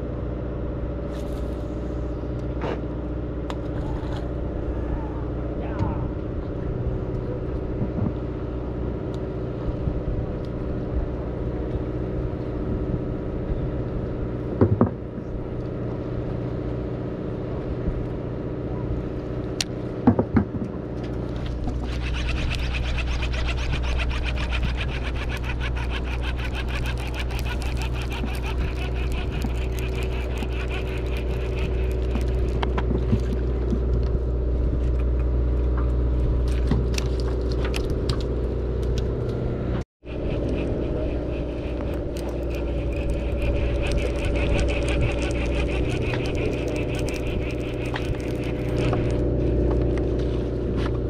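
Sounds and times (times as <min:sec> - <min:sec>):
boat engines running: 0:00.0 - 0:51.0.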